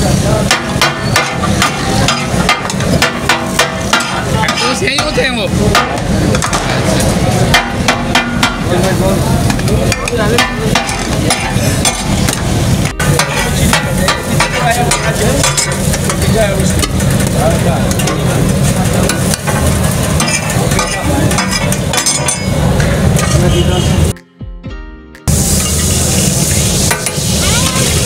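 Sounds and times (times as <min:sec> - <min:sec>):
metal spatulas clattering on griddle: 0:00.5 - 0:22.6, 0:23.2 - 0:23.5.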